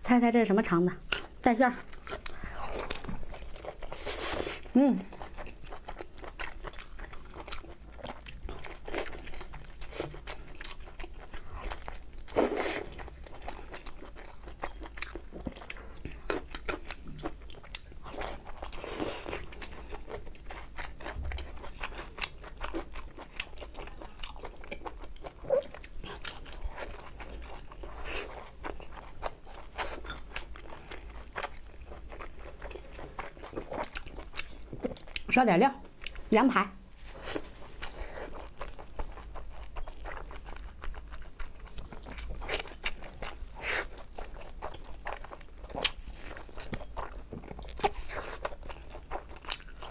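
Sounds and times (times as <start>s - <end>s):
chewing and biting food: 1.0s - 36.3s, 37.0s - 49.9s.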